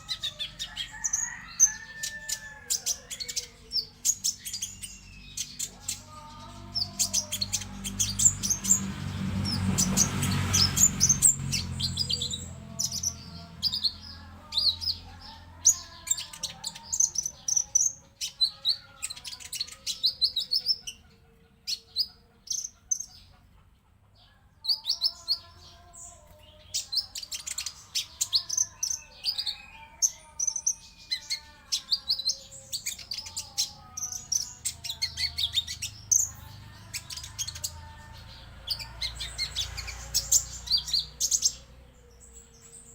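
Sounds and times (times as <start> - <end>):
songbird chirps and trills: 0.0 - 42.9.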